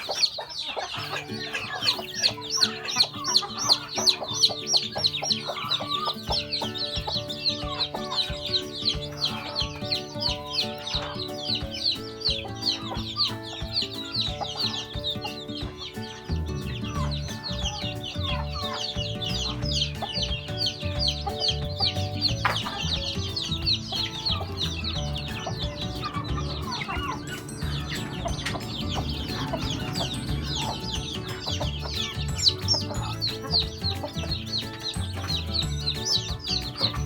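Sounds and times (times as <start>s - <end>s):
background music with low beat: 0.0s - 37.0s
chicks peeping: 0.0s - 37.0s.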